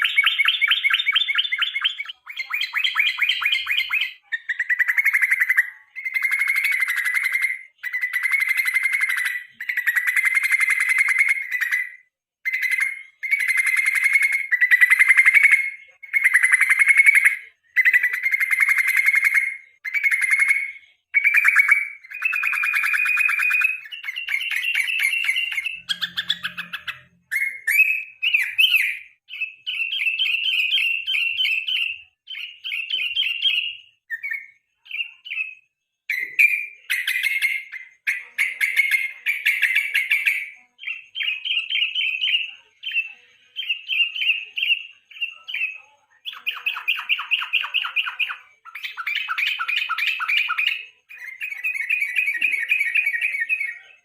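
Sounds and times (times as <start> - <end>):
bulbul singing chattering song: 0.0 - 54.0.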